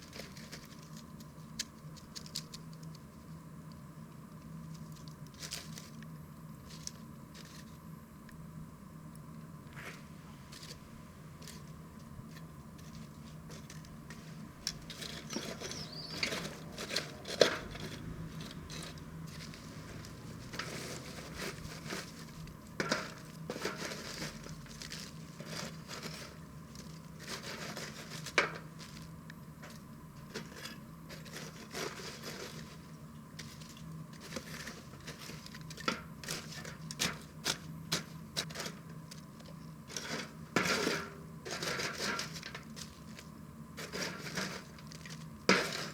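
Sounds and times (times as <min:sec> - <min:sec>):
wood fire crackling: 0:09.0 - 0:45.9.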